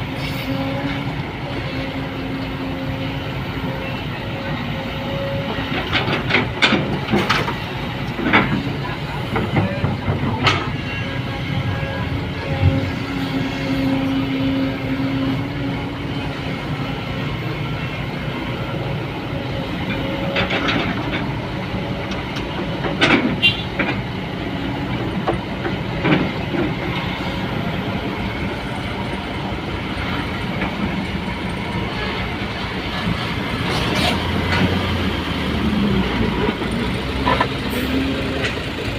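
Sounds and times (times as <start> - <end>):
heavy mechanical rumble: 0.0 - 38.9.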